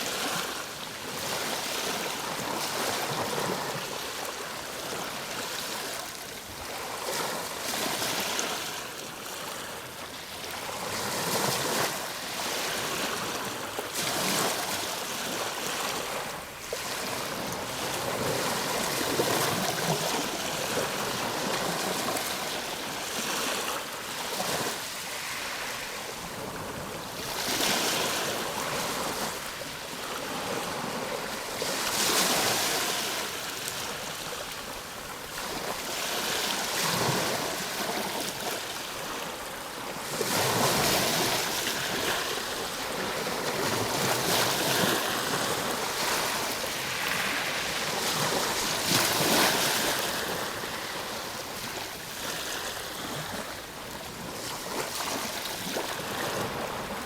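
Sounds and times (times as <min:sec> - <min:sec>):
ocean waves washing: 0:06.8 - 0:57.0.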